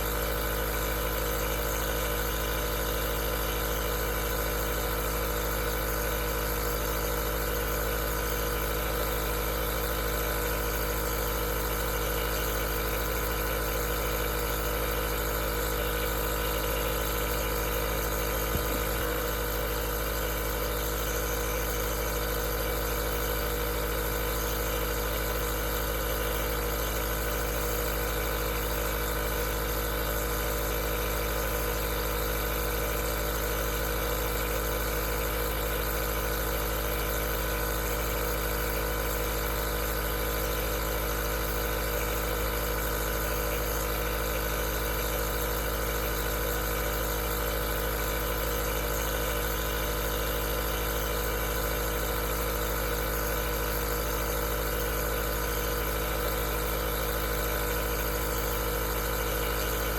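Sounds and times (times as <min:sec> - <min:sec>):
nebulizer motor hum with hiss: 0:00.0 - 0:59.9.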